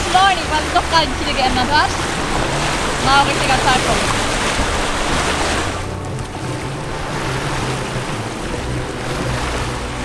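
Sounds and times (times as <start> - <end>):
wind rushing: 0.0 - 9.9
boat engine humming: 0.0 - 10.0
choppy water against hull: 0.0 - 10.0.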